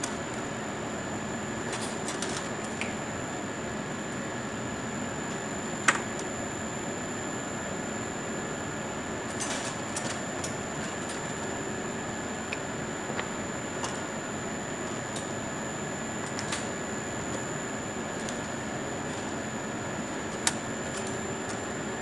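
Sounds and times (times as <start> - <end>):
ventilation hum: 0.0 - 22.0.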